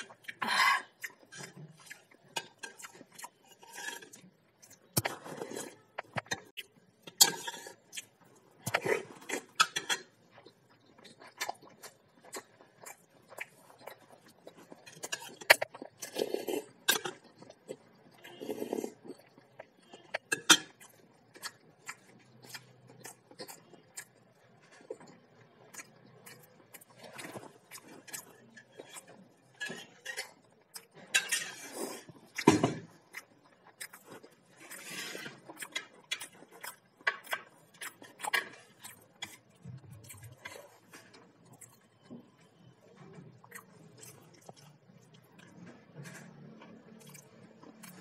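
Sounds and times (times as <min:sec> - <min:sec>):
chewing and eating: 0:00.0 - 0:48.0.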